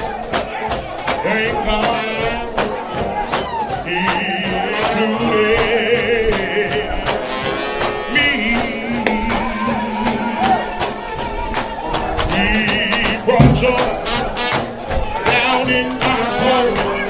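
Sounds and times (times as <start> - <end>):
brass band playing: 0.0 - 17.0
percussion steady fast beat: 0.0 - 17.0.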